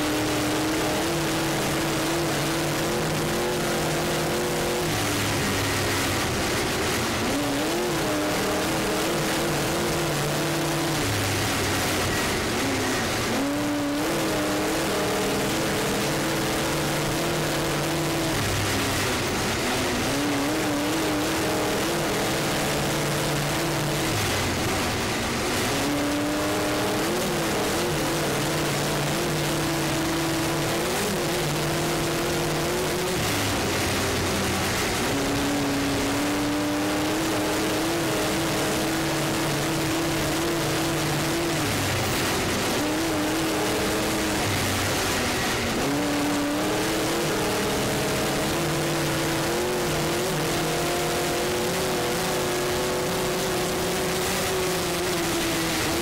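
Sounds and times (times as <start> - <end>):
track noise: 0.0 - 56.0
truck engine revving hard: 0.0 - 56.0.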